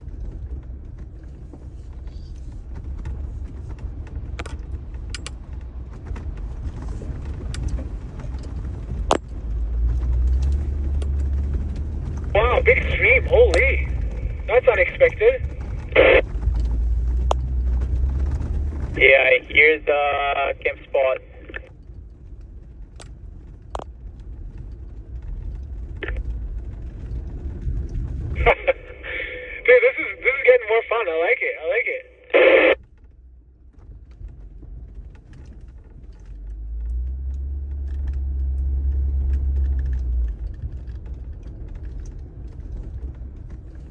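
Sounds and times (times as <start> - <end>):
vehicle engine rumble: 0.0 - 43.9.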